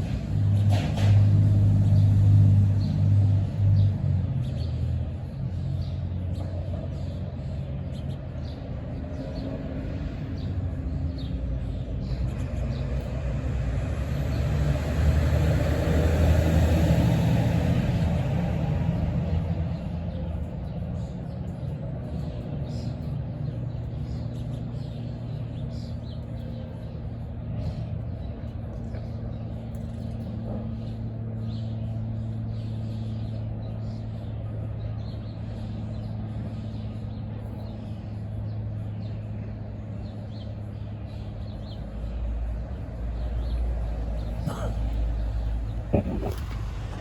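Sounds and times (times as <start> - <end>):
low engine hum: 0.0 - 47.0.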